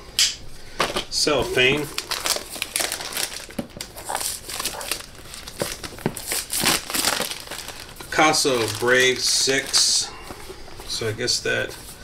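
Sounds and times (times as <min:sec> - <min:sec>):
cellophane crinkling: 0:00.8 - 0:11.3.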